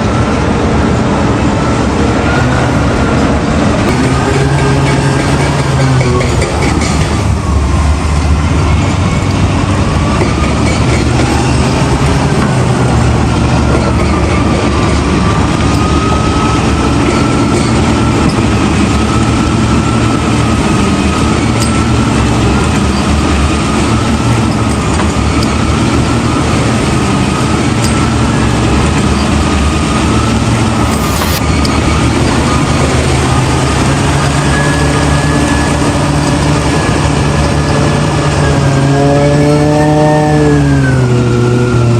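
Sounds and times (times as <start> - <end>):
diesel engine running under load: 0.0 - 41.9
wandering machine whine: 0.0 - 41.9.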